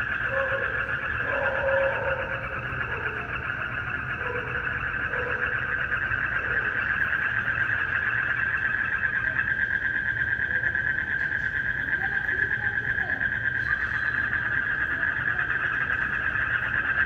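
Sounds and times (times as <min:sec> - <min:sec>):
frogs and insects trilling: 0:00.0 - 0:17.0.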